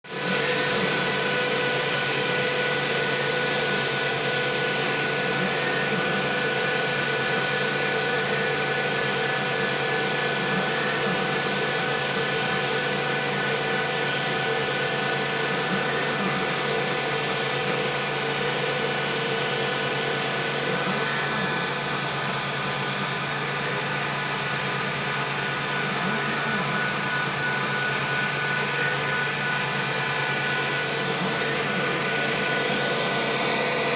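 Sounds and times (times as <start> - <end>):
machine mechanical whine: 0.2 - 33.9.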